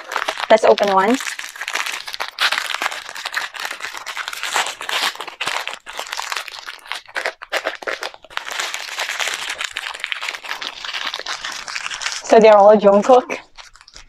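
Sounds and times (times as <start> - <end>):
packet crinkling and tearing: 0.0 - 14.0.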